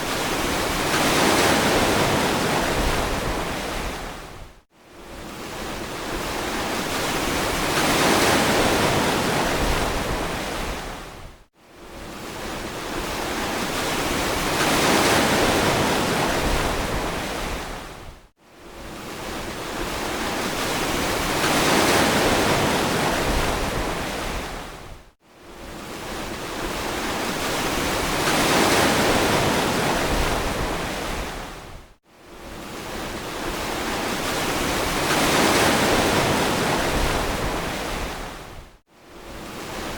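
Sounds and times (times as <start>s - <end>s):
waves breaking on beach: 0.0s - 4.4s, 5.1s - 11.2s, 11.9s - 18.1s, 18.7s - 31.8s, 32.4s - 39.9s.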